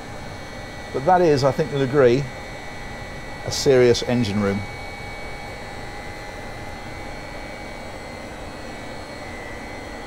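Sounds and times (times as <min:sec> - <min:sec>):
engine room machinery drone: 0:00.0 - 0:10.0.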